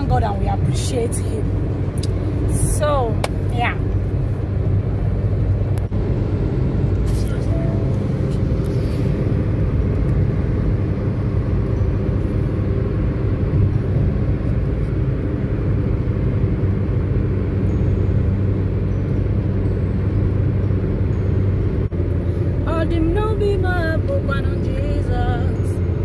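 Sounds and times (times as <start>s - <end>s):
car driving heard from inside: 0.0s - 26.0s.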